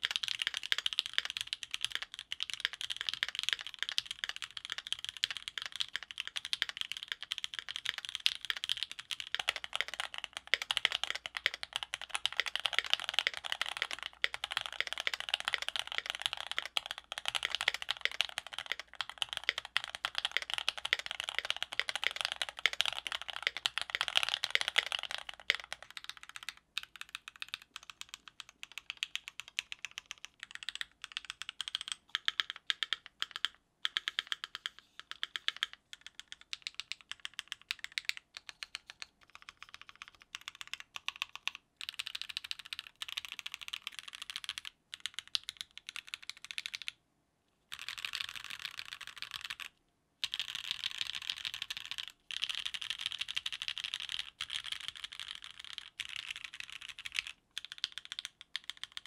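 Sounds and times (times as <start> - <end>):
mechanical keyboard typing: 0.0 - 47.0, 47.7 - 59.0.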